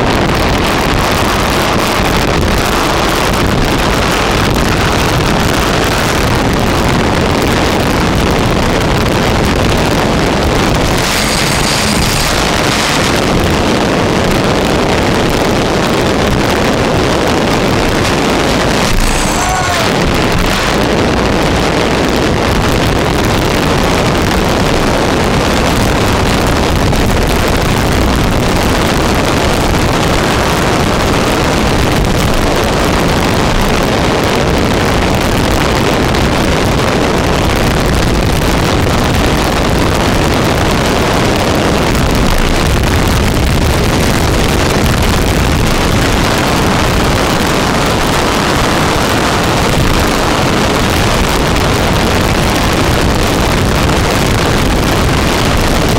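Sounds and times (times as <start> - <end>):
hull and water noise: 0.0 - 55.9
wind blasting microphone: 0.0 - 55.9.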